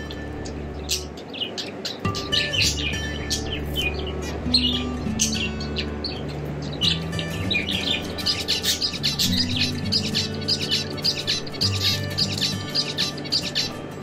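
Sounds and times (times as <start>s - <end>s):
background music with low notes: 0.0s - 14.0s
finches chirping: 0.0s - 14.0s.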